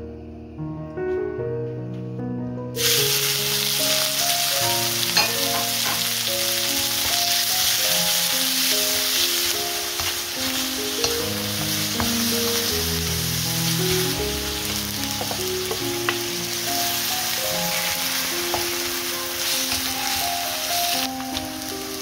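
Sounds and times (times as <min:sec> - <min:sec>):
light background music: 0:01.1 - 0:22.0
meat sizzling in a wok: 0:02.8 - 0:22.0.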